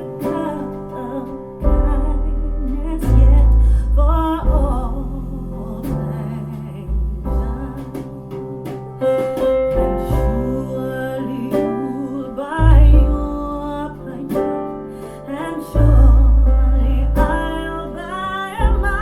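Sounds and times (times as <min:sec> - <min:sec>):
deep held bass notes: 0:00.0 - 0:19.0
person singing: 0:00.0 - 0:19.0
piano: 0:00.0 - 0:19.0.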